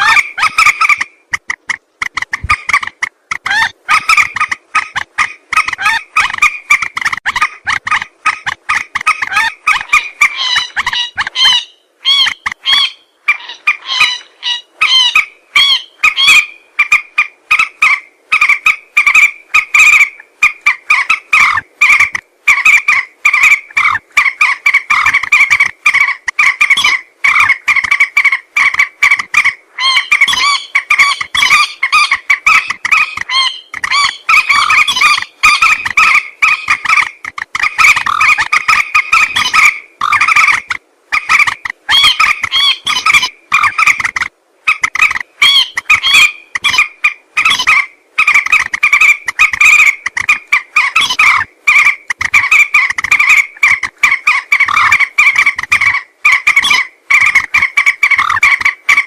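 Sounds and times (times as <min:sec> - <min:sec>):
moorhens calling: 0:00.0 - 0:59.0.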